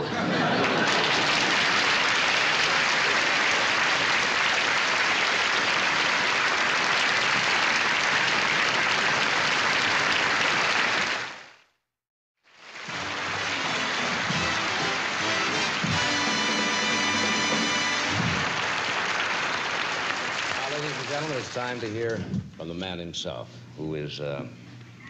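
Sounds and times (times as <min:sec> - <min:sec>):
audience applauding: 0:00.0 - 0:11.6, 0:12.5 - 0:22.0.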